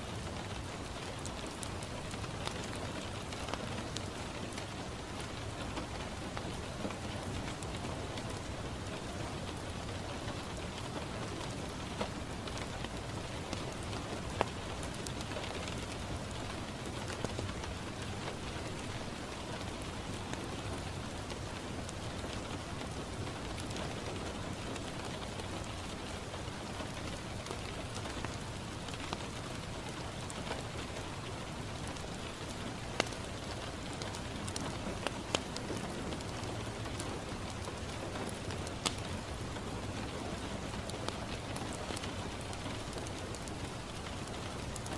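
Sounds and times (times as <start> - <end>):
rain on a window: 0.0 - 44.9.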